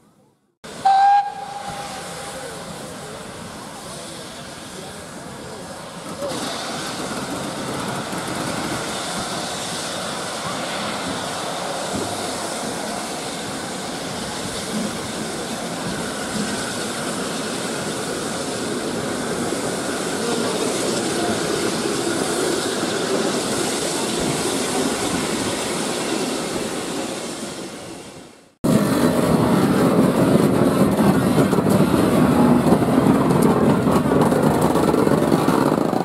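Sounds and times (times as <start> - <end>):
steam locomotive hissing: 0.6 - 36.0
wheels rumbling on rails: 0.7 - 36.0.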